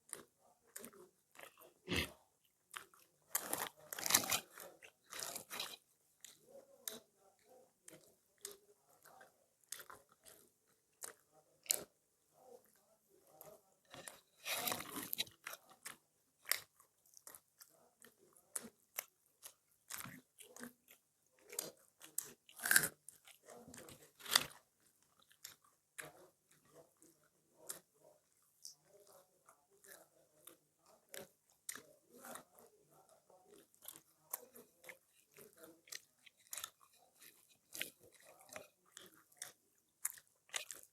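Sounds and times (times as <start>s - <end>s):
crunching bites and chewing: 0.0s - 11.9s, 12.7s - 27.9s, 28.6s - 32.6s, 33.5s - 40.9s
mouth clicks and smacks: 0.0s - 11.9s, 12.6s - 40.9s.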